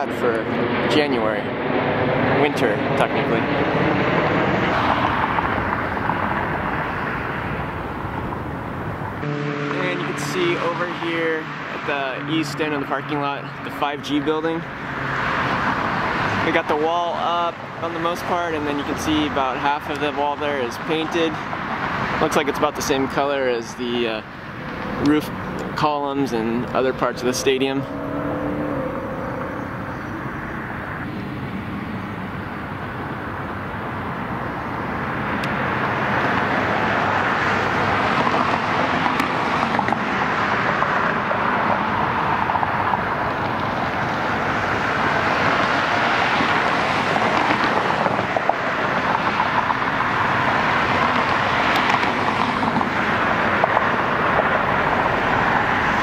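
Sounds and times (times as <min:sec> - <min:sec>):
vehicle traffic rushing: 0:00.0 - 0:56.0.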